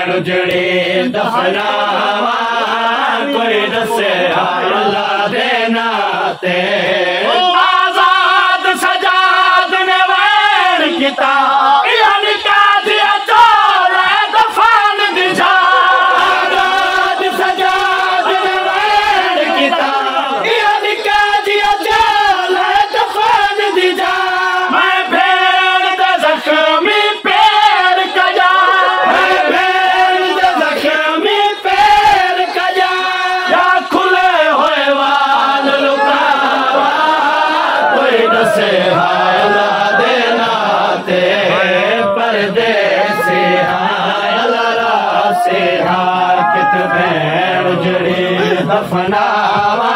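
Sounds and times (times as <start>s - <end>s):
crowd of men singing: 0.0s - 49.9s
man chanting a lament: 0.0s - 49.9s.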